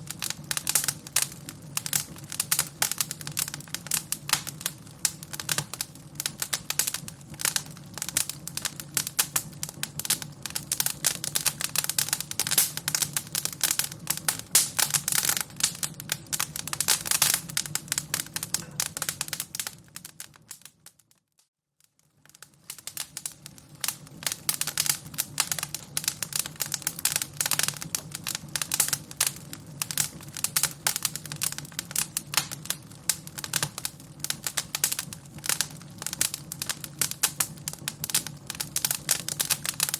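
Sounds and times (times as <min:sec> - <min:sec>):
fire crackling: 0:00.0 - 0:21.1, 0:21.8 - 0:39.9.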